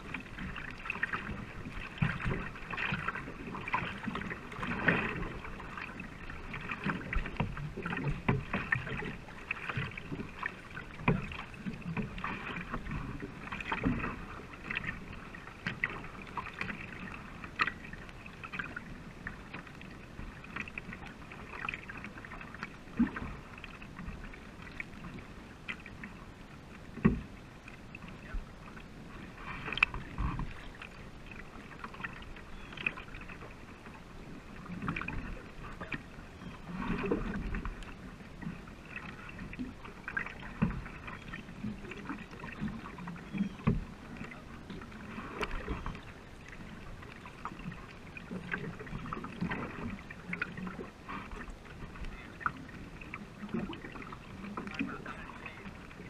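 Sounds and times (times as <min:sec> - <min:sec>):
paddle splashing water: 0:00.0 - 0:56.0.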